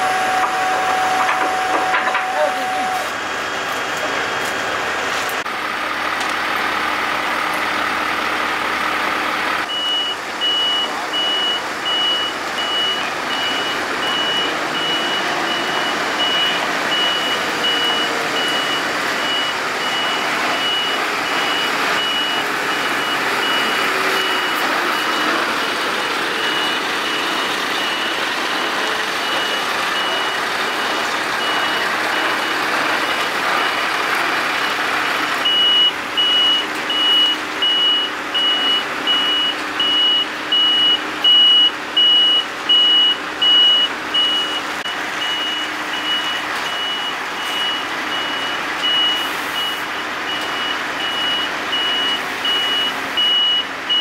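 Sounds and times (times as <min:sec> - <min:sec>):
reversing alarm beeping: 0:00.0 - 0:03.2, 0:09.6 - 0:34.0, 0:34.6 - 0:54.0
heavy truck engine running: 0:00.0 - 0:54.0.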